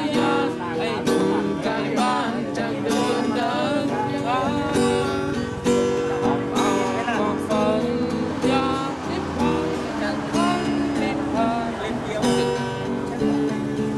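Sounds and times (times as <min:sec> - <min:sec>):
acoustic guitar strumming: 0:00.0 - 0:13.9
person singing: 0:00.0 - 0:13.9.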